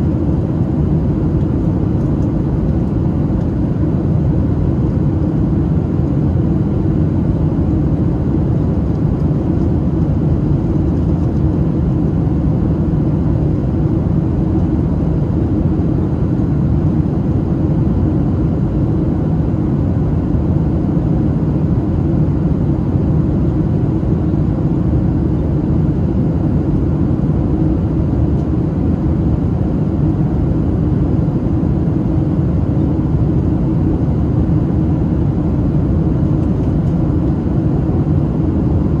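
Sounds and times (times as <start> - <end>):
airplane cabin noise: 0.0 - 39.0.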